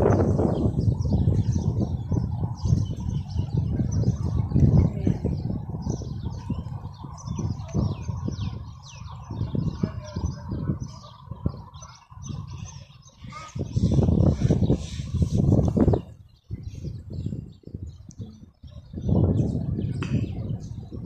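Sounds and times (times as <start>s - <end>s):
low uneven rumble: 0.0s - 21.0s
small birds chirping: 0.0s - 21.0s.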